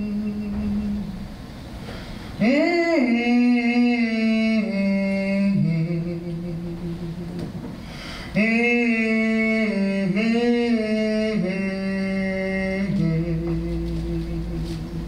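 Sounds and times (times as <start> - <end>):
man humming a blues line: 0.0 - 1.3, 2.4 - 7.6, 8.4 - 15.0.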